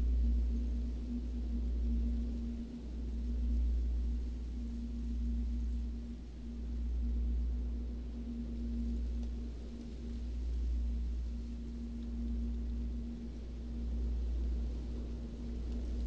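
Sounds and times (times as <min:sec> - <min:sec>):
deep low ambient drone: 0:00.0 - 0:16.0
steady hum-like tone: 0:00.0 - 0:16.0.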